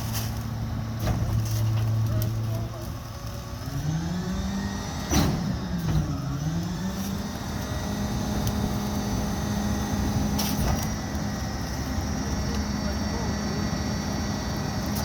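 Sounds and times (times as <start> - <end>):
garbage truck diesel engine revving: 0.3 - 15.0.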